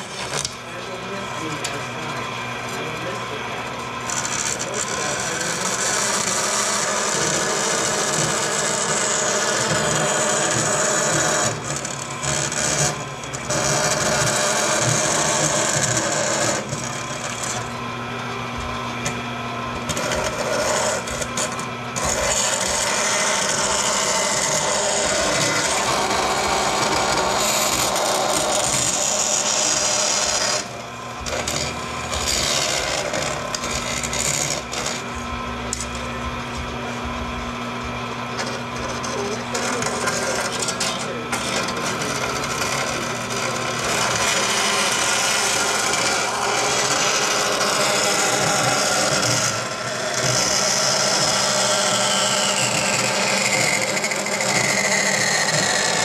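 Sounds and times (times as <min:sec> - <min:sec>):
saw motor hum: 0:00.0 - 0:56.0
bandsaw blade rasping through metal: 0:04.0 - 0:17.8, 0:19.8 - 0:35.1, 0:38.4 - 0:56.0.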